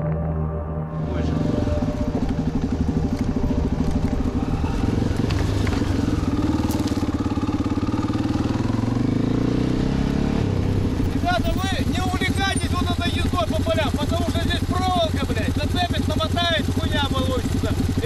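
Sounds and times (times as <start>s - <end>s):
motorcycle engine running: 1.0s - 18.0s.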